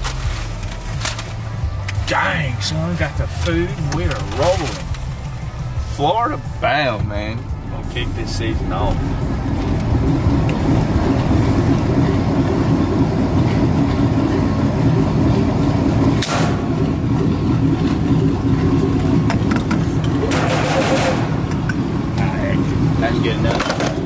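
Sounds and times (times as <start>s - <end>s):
vehicle interior engine and tyre rumble: 0.0s - 24.0s.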